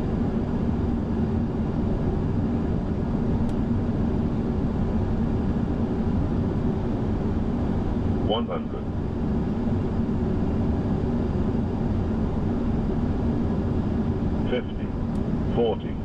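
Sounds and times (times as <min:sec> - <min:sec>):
aircraft engine noise: 0:00.0 - 0:16.0.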